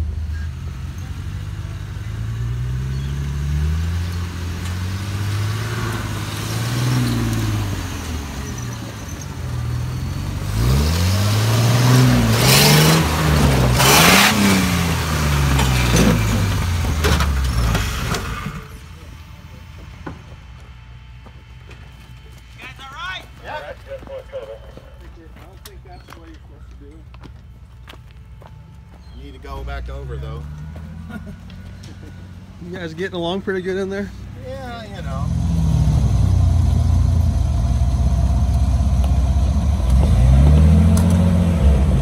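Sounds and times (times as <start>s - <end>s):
jeep engine revving: 0.0s - 20.6s, 25.3s - 42.0s
loud noise over engine: 0.0s - 25.6s, 27.3s - 42.0s.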